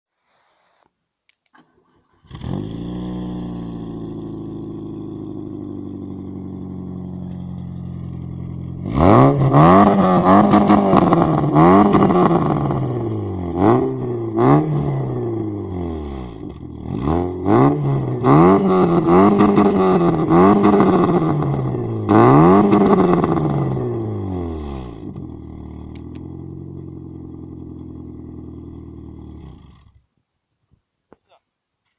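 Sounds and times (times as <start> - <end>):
car engine starting and idling: 1.5 - 30.1.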